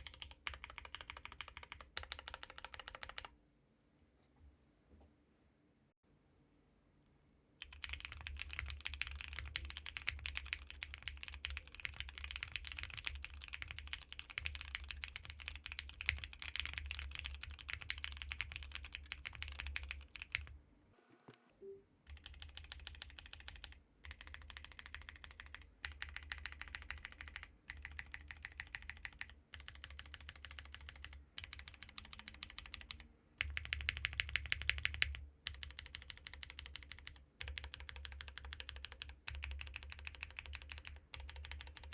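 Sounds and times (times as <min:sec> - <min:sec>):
typing on mechanical keyboard: 0:00.0 - 0:03.3, 0:07.6 - 0:20.5, 0:22.1 - 0:41.9.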